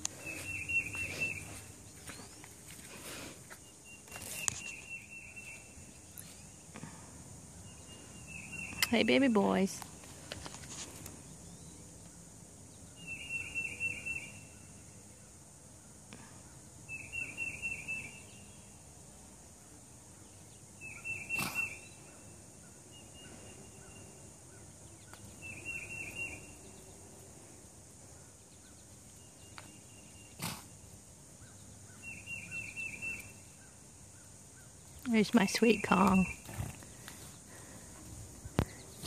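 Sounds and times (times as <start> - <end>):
songbird singing: 0.0 - 39.0
steady high hiss: 0.0 - 39.0.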